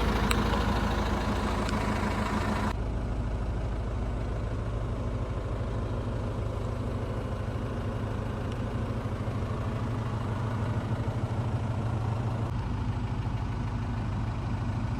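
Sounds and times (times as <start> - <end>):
diesel lorry engine idling: 0.0 - 14.9.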